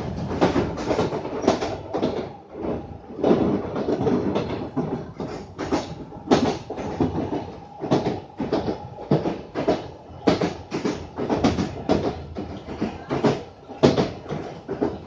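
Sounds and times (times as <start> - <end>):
train rumbling on track: 0.0 - 15.0
wheels clacking over rails: 0.0 - 15.0.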